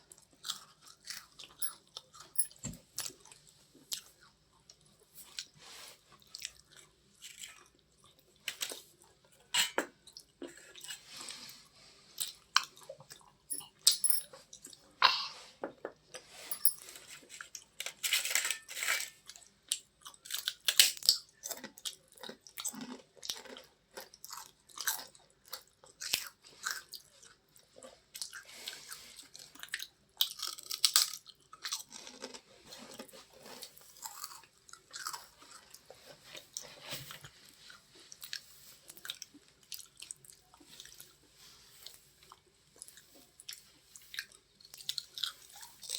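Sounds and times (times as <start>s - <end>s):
chewing crunchy chips: 0.0s - 15.0s, 17.1s - 45.9s.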